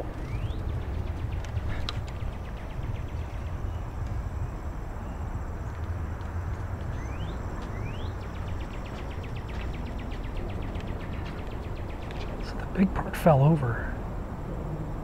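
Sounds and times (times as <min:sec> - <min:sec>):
bird chirping: 0:00.0 - 0:06.0, 0:06.6 - 0:13.9
low outdoor rumble: 0:00.0 - 0:15.0.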